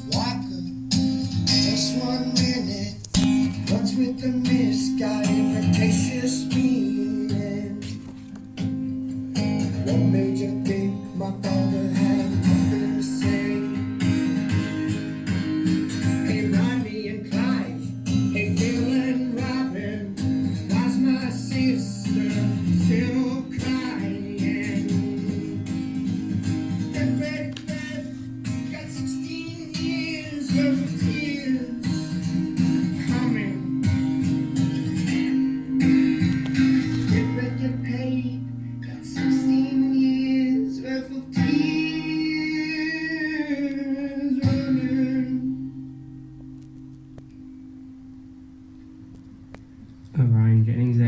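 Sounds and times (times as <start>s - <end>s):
young man singing: 0.0s - 8.4s, 9.3s - 46.0s
acoustic guitar: 0.0s - 51.0s.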